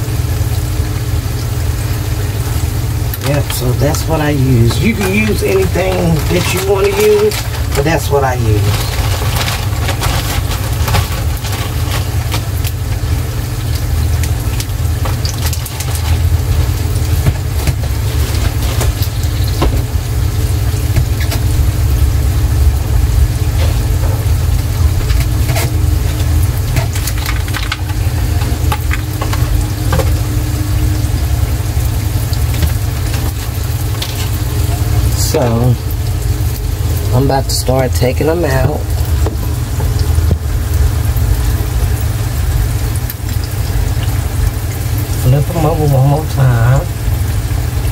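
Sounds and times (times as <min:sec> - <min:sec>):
food frying with crackles and pops: 0:00.0 - 0:47.9
steady low rumble: 0:00.0 - 0:47.9.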